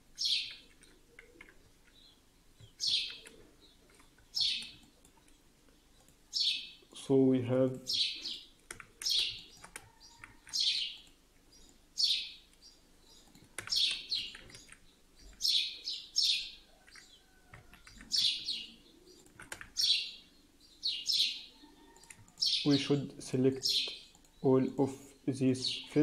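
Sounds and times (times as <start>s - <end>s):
small bird chirping: 0.2s - 6.9s, 7.9s - 22.9s.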